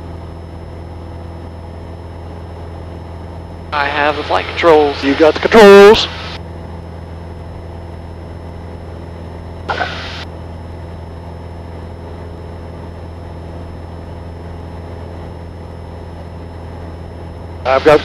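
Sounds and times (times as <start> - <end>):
aircraft engine and propeller droning: 0.0 - 18.0.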